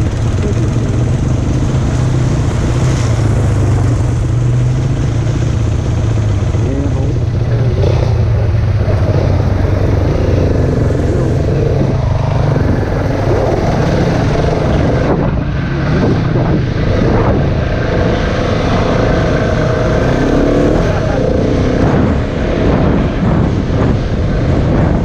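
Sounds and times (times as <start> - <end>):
dirt bike engine revving: 0.0 - 23.5
low rumble on microphone: 0.0 - 25.0.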